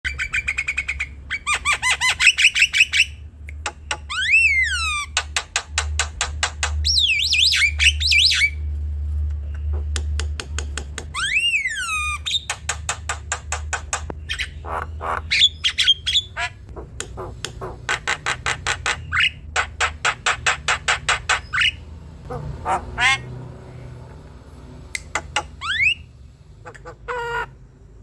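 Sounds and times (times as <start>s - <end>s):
bird singing chattering song: 0.0s - 8.6s, 11.1s - 23.2s, 25.0s - 27.8s.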